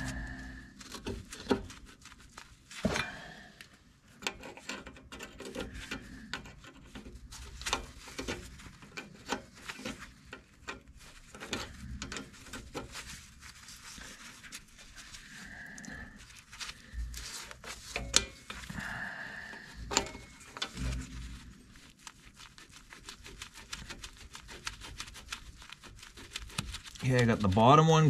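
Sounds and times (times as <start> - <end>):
gloved fingers rubbing on metal: 4.2 - 18.9, 19.5 - 28.0.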